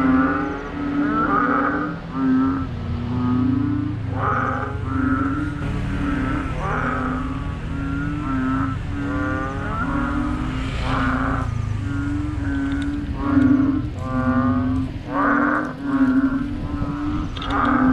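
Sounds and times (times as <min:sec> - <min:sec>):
frogs calling loudly: 0:00.0 - 0:17.9
steady low drone: 0:00.0 - 0:17.9.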